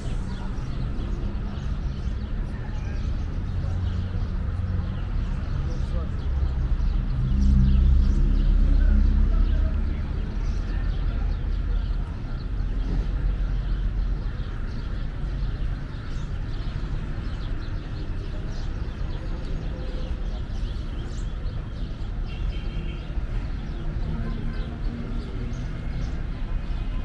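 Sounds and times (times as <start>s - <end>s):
low rumble of traffic: 0.0s - 27.0s.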